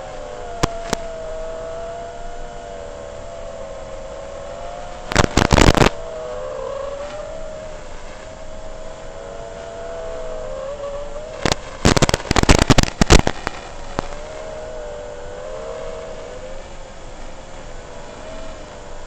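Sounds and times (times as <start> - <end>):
loud crackling bursts: 0.0 - 1.9, 3.9 - 17.8
drone motors whining: 0.0 - 19.0.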